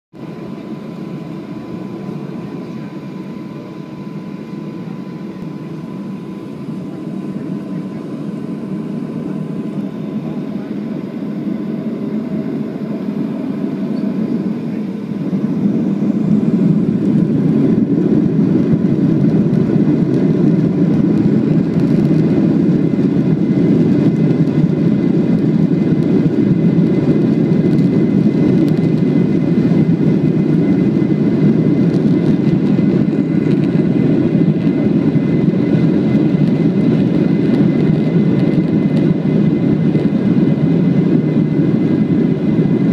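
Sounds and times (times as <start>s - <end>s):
faint high engine whine: 0.2s - 42.9s
jet engines spooling up: 0.3s - 42.9s.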